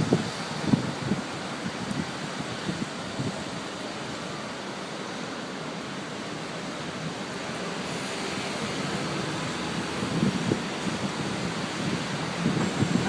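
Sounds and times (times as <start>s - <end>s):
strong storm wind rushing: 0.0s - 4.5s, 6.9s - 13.0s.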